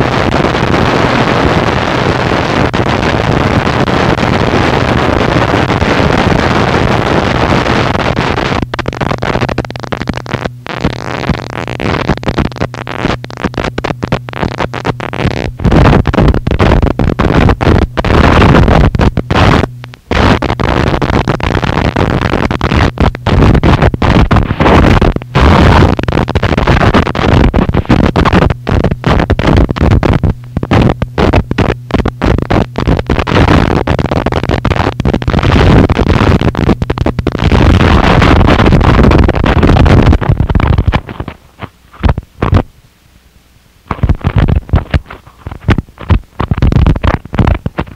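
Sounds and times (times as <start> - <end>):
distorted noise music: 0.0 - 47.9
steady low hum: 0.0 - 47.9.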